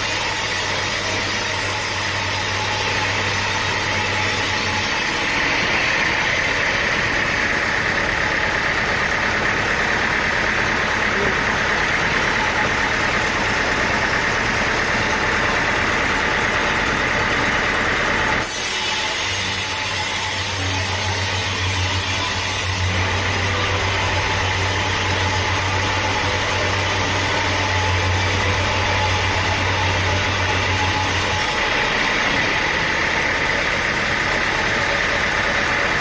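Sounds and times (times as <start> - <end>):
motor running: 0.0 - 36.0.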